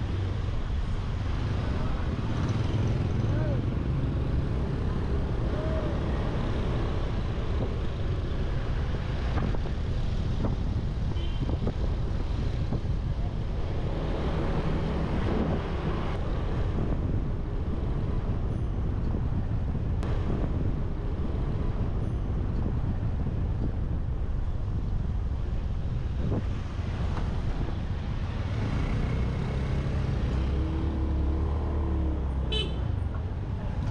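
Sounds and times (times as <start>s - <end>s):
street traffic: 0.0s - 33.9s
wind rumble on microphone: 0.0s - 33.9s.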